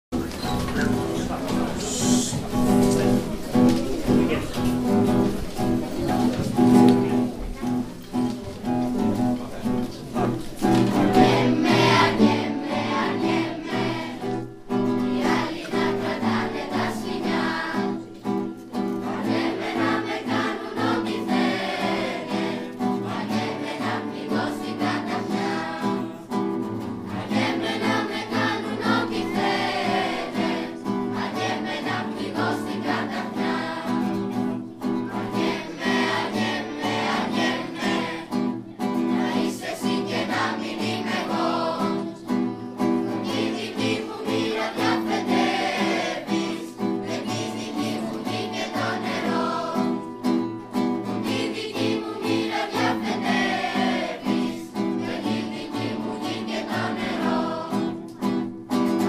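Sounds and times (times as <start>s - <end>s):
acoustic guitar: 0.1s - 59.0s
children's choir singing: 0.2s - 59.0s.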